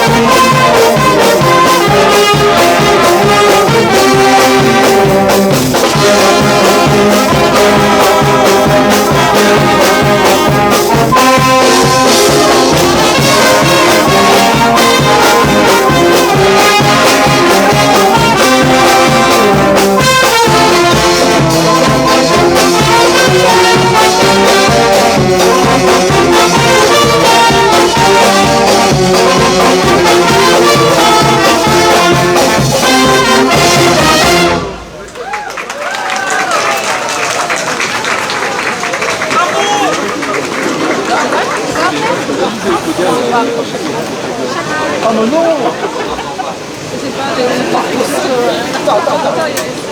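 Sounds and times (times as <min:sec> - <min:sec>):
brass band playing: 0:00.0 - 0:48.9.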